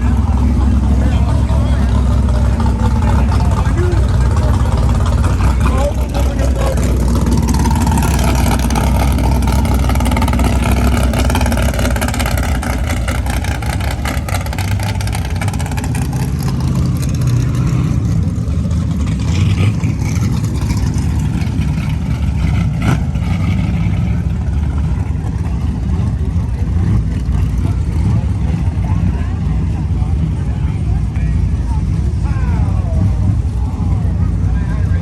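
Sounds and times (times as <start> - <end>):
drag racing car engines revving: 0.0 - 35.0.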